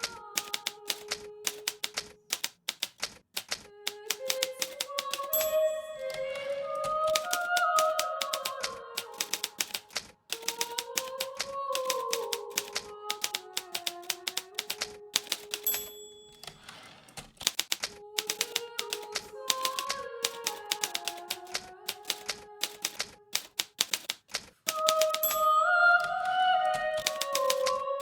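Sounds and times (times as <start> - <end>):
typewriter key strikes: 0.0 - 6.2, 7.1 - 16.6, 17.2 - 25.5, 27.0 - 27.8
typewriter bell ring: 0.4 - 2.9, 3.9 - 26.2, 27.0 - 27.8.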